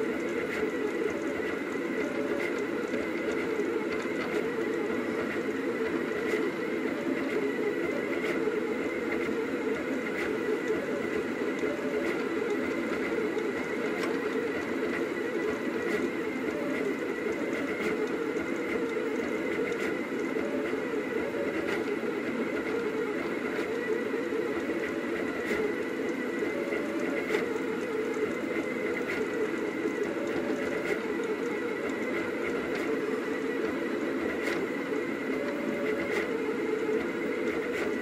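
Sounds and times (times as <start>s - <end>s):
printer motors warbling hum: 0.0s - 38.0s.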